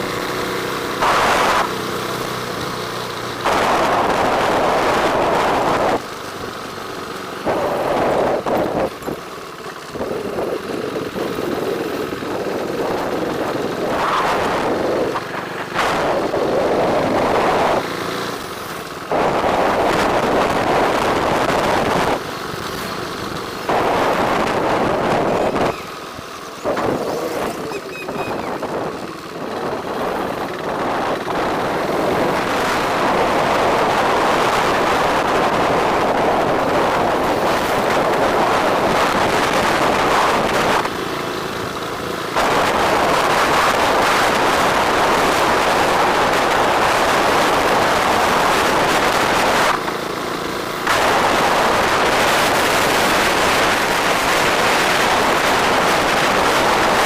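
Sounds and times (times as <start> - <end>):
motorbike engine: 0.0 - 57.0
wind rushing over microphone: 3.4 - 6.1, 7.4 - 9.2, 9.9 - 26.0, 26.6 - 41.0, 42.3 - 49.9, 50.8 - 57.0.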